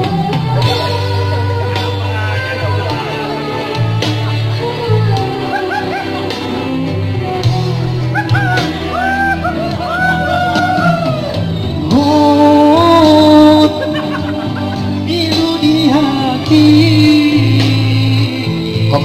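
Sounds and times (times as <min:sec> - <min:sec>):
man singing into a microphone: 0:00.0 - 0:11.0, 0:11.6 - 0:19.0
backing track music: 0:00.0 - 0:19.0.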